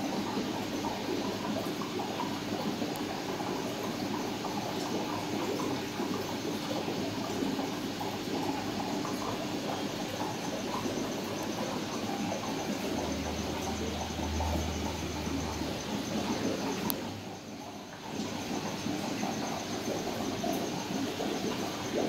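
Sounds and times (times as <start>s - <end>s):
faint steady hum: 0.0s - 22.0s
water circulating and trickling: 0.0s - 22.0s.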